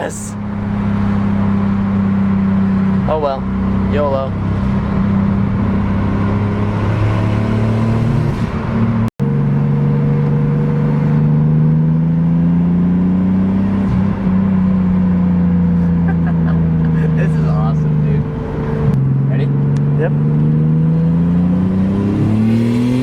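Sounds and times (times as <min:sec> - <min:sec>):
car engine droning: 0:00.0 - 0:23.0.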